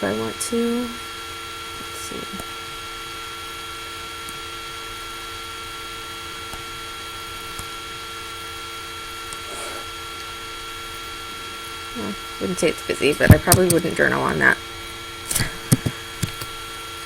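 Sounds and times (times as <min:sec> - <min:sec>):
laptop fan hiss and whine: 0:00.0 - 0:17.0.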